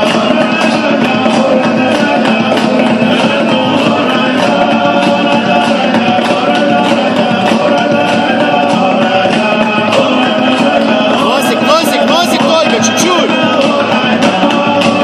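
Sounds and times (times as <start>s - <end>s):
loud dance music with singing: 0.0s - 15.0s.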